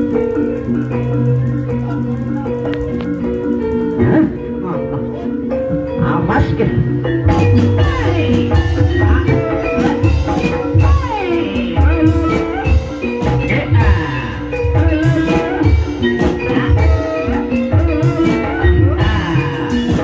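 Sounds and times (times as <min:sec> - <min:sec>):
bronze metallophones ringing: 0:00.0 - 0:20.0
hand drums beating: 0:00.0 - 0:20.0
sliding melodic line: 0:00.0 - 0:20.0.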